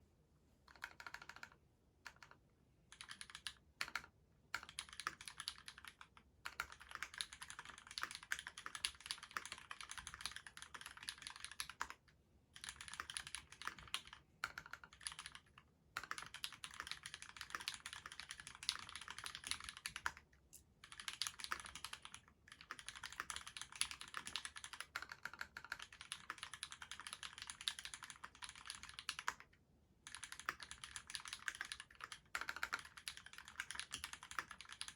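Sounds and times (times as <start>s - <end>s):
fast typing on mechanical keyboard: 0.7s - 34.9s.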